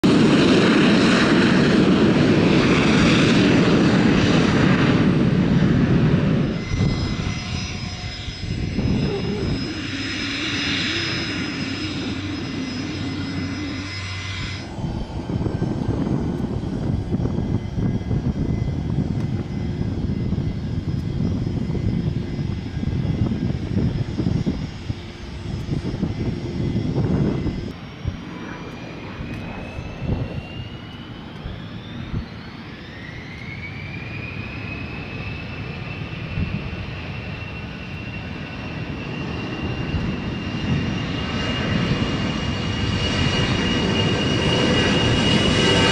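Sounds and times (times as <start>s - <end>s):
airliner engines rushing: 0.0s - 45.9s
high engine whine: 0.0s - 45.9s.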